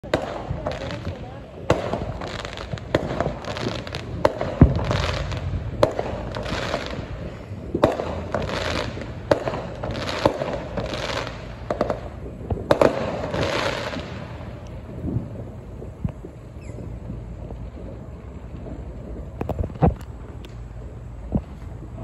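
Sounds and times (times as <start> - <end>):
crackling hiss: 0.0 - 22.0
distant fireworks bangs: 0.0 - 22.0.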